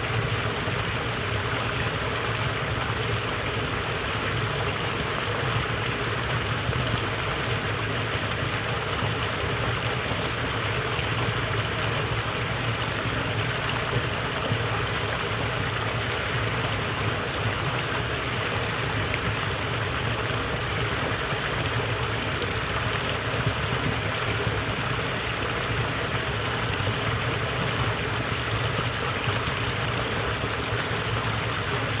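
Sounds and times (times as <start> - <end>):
waterfall pouring and splashing: 0.0 - 32.0.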